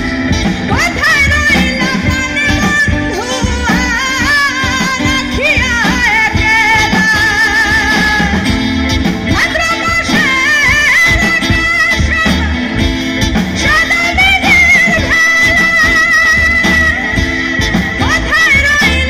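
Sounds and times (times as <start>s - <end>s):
bass guitar: 0.0s - 19.0s
drums: 0.0s - 19.0s
electric guitar: 0.0s - 19.0s
keyboard: 0.0s - 19.0s
woman singing into a microphone: 0.0s - 19.0s.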